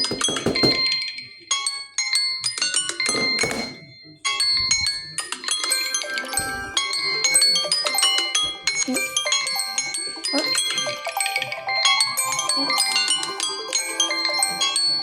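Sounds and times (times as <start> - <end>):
phone alarm chiming melody: 0.0 - 15.0.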